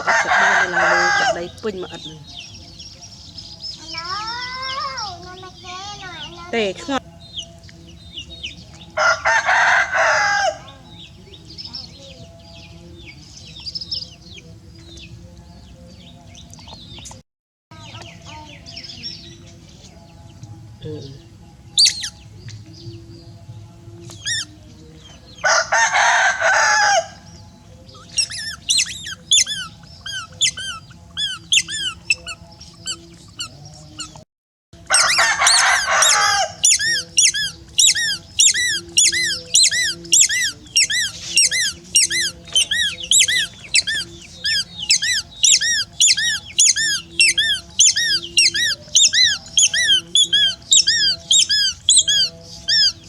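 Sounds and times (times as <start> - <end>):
harsh bird calls: 0.0 - 17.2, 20.8 - 23.0, 24.1 - 34.2, 34.8 - 53.0
high peeping bird calls: 0.0 - 34.2, 34.8 - 53.0.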